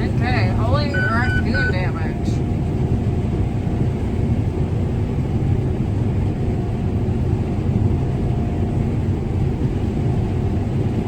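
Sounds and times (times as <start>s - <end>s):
combine harvester drone: 0.0s - 11.0s
faint steady machine whine: 0.0s - 11.0s.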